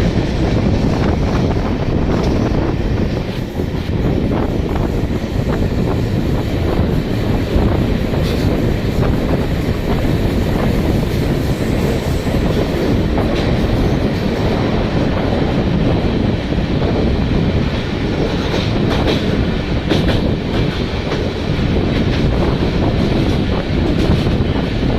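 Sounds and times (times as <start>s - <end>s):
train rumbling in motion: 0.0s - 24.9s.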